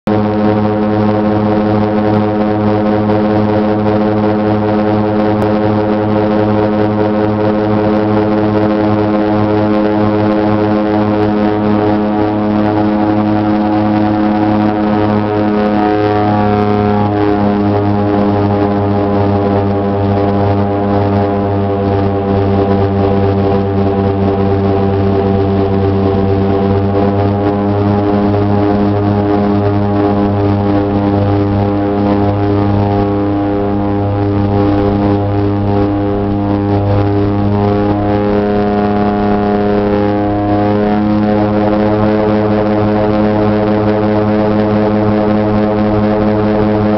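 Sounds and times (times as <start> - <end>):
turboprop engines droning: 0.1 - 46.9.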